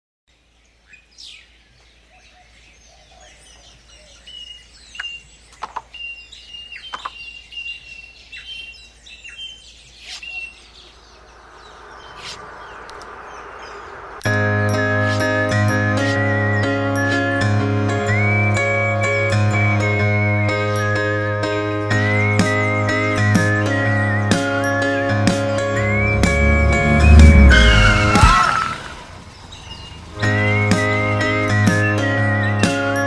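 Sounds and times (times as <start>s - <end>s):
birds chirping: 0.4s - 33.0s.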